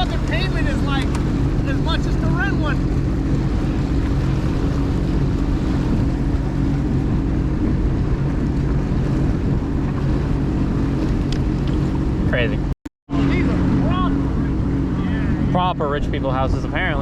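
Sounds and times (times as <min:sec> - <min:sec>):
jet ski engine running: 0:00.0 - 0:17.0.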